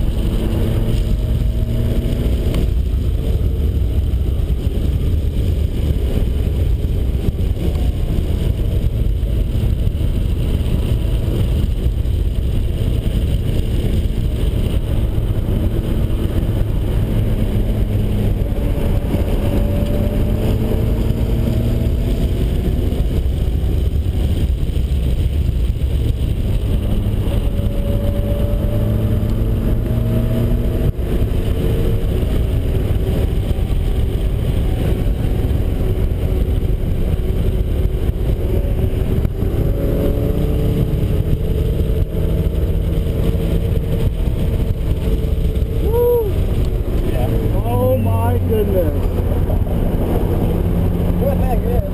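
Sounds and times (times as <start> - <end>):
car engine revving: 0.0 - 51.9
loud steady low rumble: 0.0 - 51.9.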